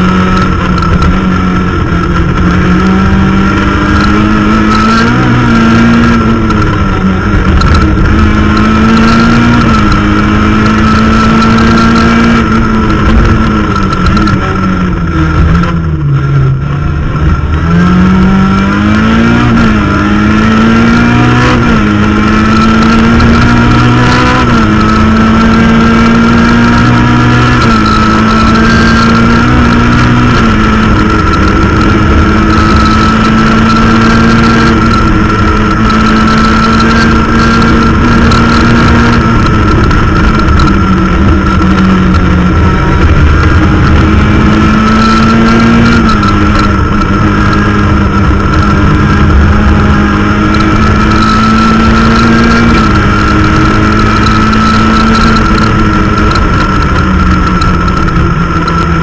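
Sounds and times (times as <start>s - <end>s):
rally car engine running hard: 0.0s - 59.0s
steady high whine: 0.0s - 59.0s.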